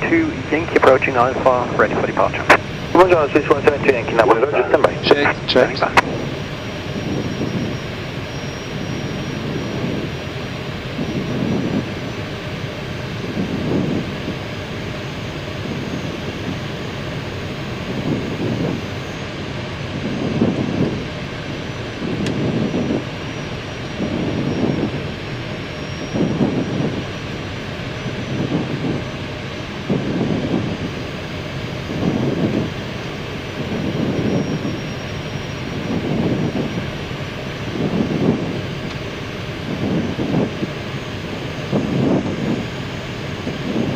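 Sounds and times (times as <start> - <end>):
airflow and engine rush: 0.0 - 43.9.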